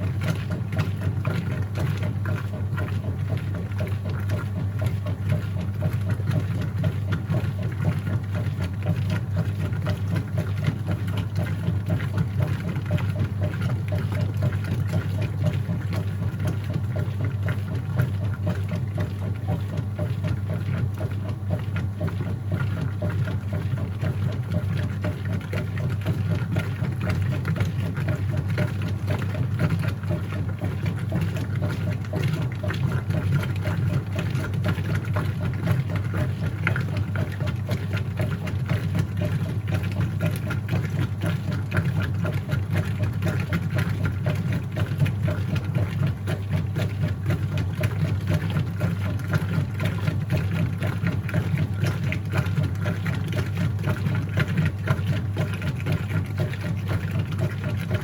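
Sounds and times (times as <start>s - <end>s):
washing machine motor hum: 0.0s - 58.0s
water and clothes churning: 0.0s - 58.0s.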